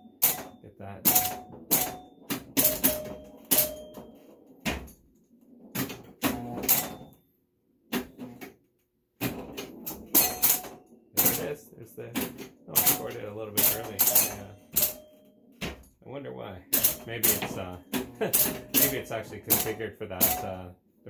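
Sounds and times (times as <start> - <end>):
pinball machine clacking: 0.0 - 7.2, 9.2 - 15.9, 16.7 - 20.7.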